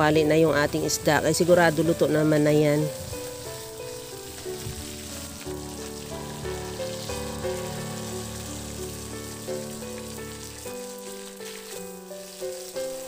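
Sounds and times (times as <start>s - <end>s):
background music with held notes: 0.0s - 13.0s
fish frying in hot oil: 0.0s - 13.0s.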